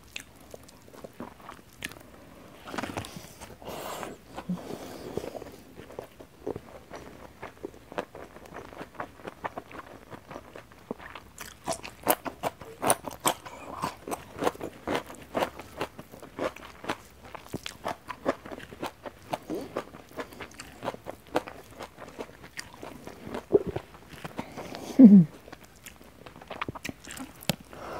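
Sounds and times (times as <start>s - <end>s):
crunching and chewing raw bean: 0.0s - 27.9s.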